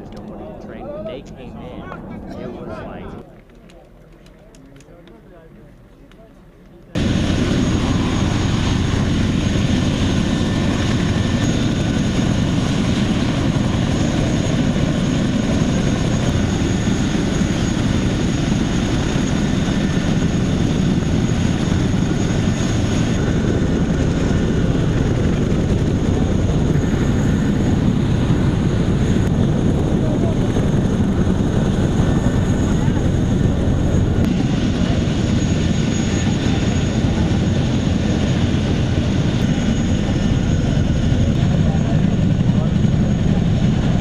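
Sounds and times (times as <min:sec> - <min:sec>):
helicopter rotor and engine noise: 0:00.0 - 0:44.0
high turbine whine: 0:07.0 - 0:44.0.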